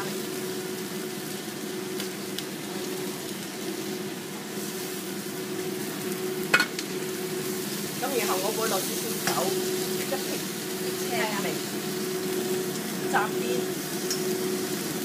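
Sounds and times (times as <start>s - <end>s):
beans sizzling in a wok: 0.0s - 15.0s
steady low hum: 0.0s - 15.0s.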